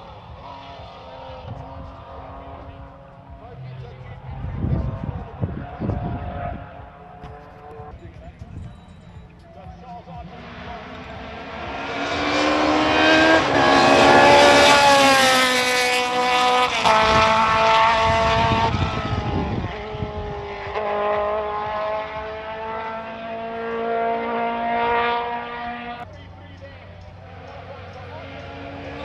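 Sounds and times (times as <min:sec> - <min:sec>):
racing car engine accelerating: 0:00.0 - 0:26.0, 0:26.8 - 0:29.0.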